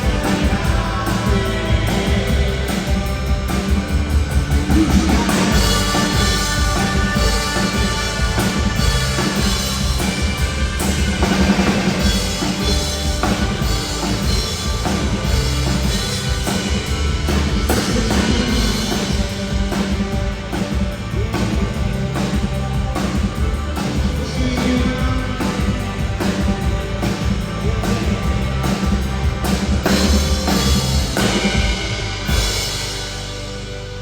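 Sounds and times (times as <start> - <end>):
drum kit beat: 0.0 - 34.0
live rock band playing: 0.0 - 34.0.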